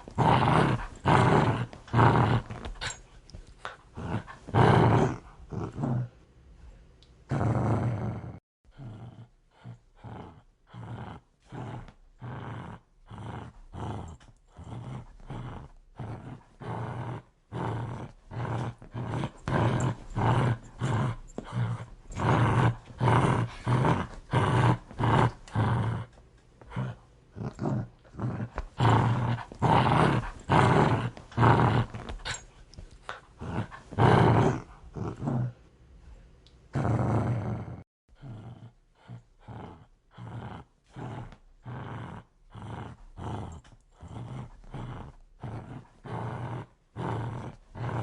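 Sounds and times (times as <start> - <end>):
dog growling: 0.0 - 3.0, 3.6 - 6.2, 7.3 - 32.5, 33.1 - 35.6, 36.7 - 48.0.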